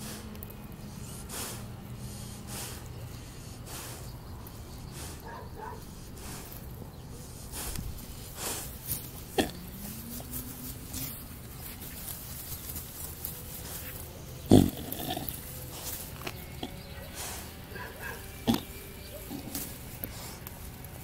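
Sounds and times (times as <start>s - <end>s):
pig grunting and snuffling: 0.0s - 21.0s.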